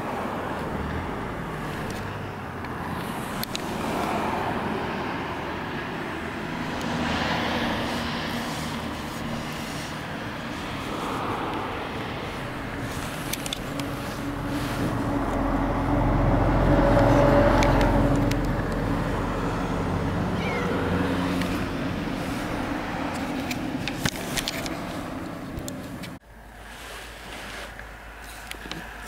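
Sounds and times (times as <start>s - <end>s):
low motor hum: 0.3s - 26.5s.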